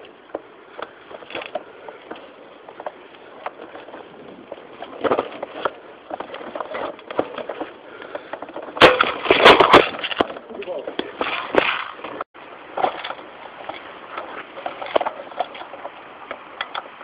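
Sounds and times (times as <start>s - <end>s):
dry grass and brush rustling: 0.0s - 17.0s.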